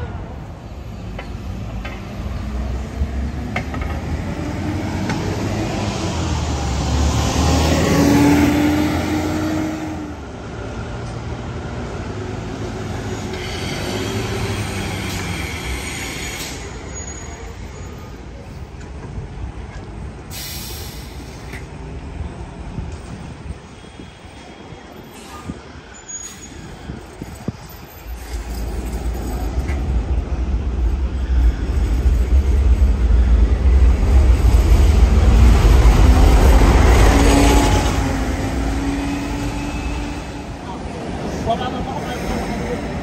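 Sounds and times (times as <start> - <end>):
tram running on rails: 0.0 - 43.0.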